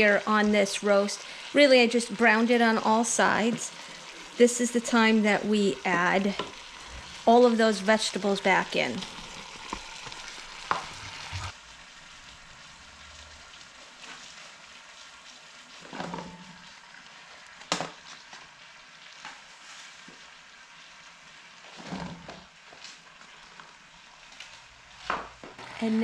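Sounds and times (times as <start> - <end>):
vegetables sizzling in a pot: 0.0 - 26.0.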